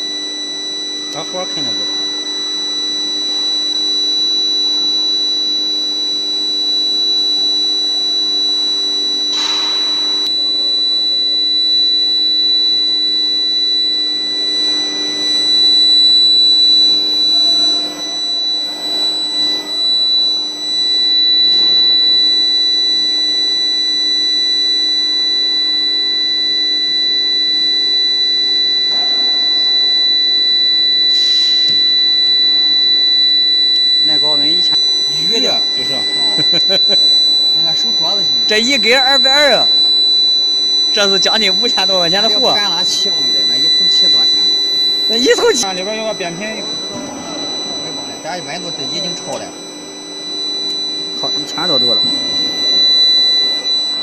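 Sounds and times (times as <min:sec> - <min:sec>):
induction furnace whining: 0:00.0 - 0:54.0.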